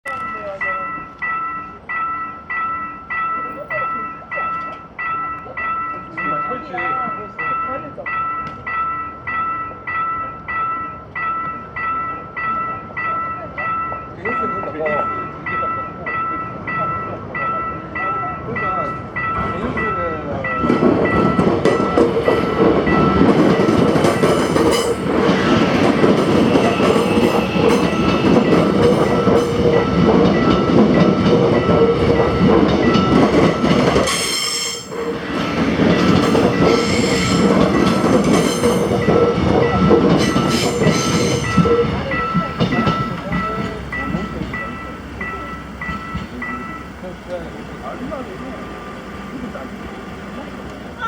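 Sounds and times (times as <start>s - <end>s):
crossing warning bell dinging: 0.0s - 51.0s
train wheels clacking on rails: 0.1s - 51.0s.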